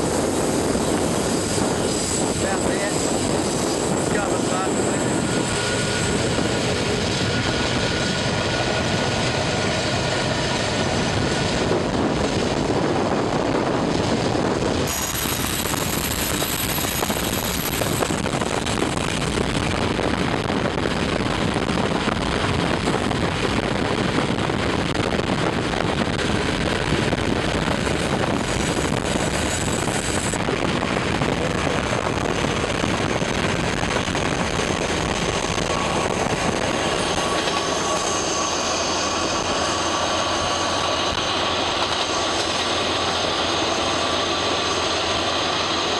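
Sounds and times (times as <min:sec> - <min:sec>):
locomotive engine rumble: 0:00.0 - 0:45.9
train rolling on rails: 0:00.0 - 0:45.9.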